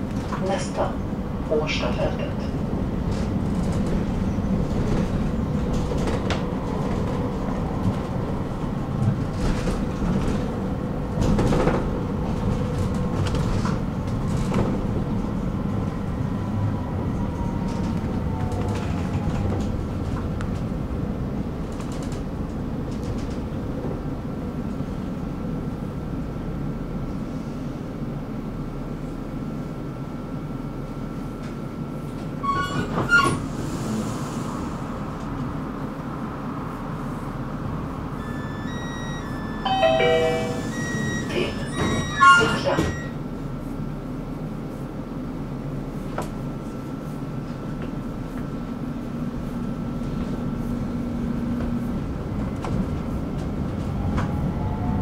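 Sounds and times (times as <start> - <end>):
tram wheels rumbling on track: 0.0 - 55.0.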